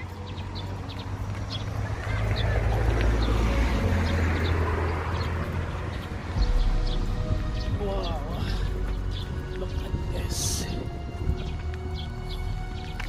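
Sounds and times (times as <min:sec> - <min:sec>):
small birds chirping: 0:00.0 - 0:13.0
vehicle passing rumble: 0:00.0 - 0:13.0.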